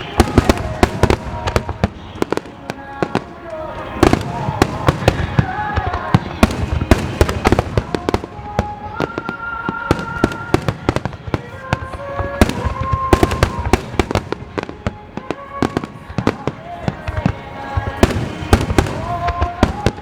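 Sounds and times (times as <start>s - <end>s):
fireworks bursting: 0.0s - 20.0s
music with long held notes: 0.0s - 20.0s.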